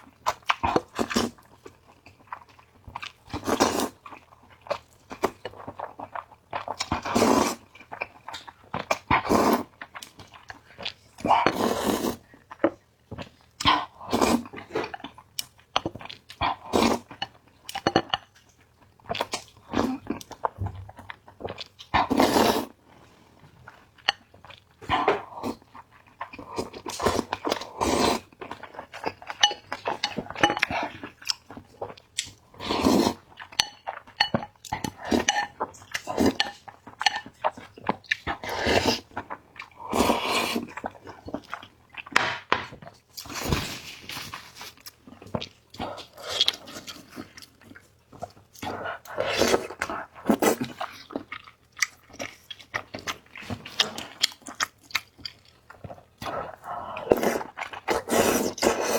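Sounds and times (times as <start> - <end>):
noodles being chewed and slurped: 0.0 - 42.2, 42.8 - 58.9.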